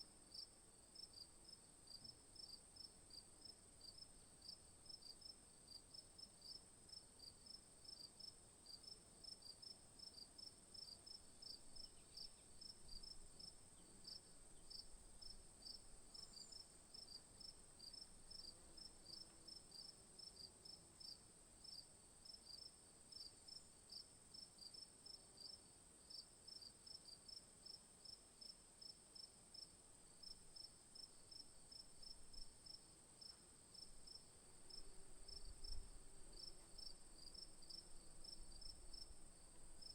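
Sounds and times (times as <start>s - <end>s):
insect chorus humming and chirping: 6.4s - 26.7s, 27.3s - 39.9s.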